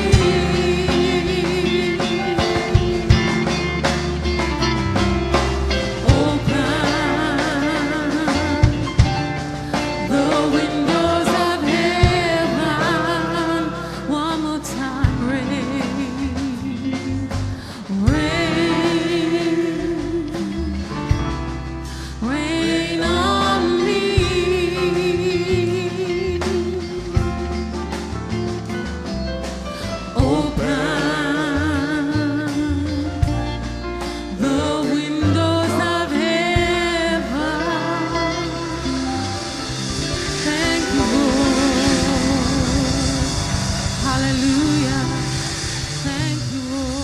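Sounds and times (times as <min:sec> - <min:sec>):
person singing with vibrato: 0:00.0 - 0:03.8, 0:05.8 - 0:27.6, 0:30.0 - 0:47.0
band with bass and drums: 0:00.0 - 0:47.0.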